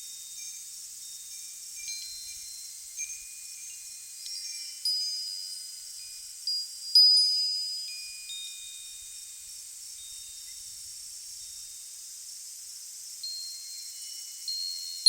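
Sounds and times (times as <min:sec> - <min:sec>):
wind chimes ringing: 0:00.0 - 0:10.8, 0:13.2 - 0:15.0.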